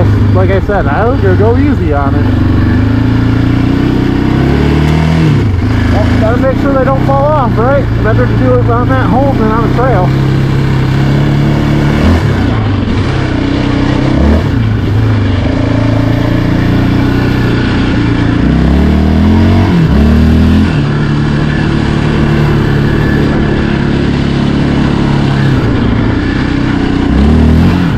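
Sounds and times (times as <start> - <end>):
atv engine running: 0.0 - 27.9
engine revving: 0.0 - 27.9.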